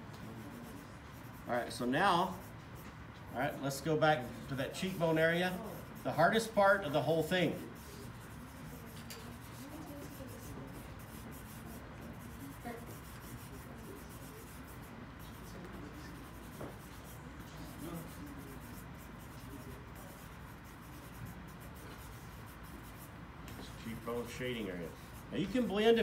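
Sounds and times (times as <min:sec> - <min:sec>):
charcoal scratching on paper: 0:00.1 - 0:26.0.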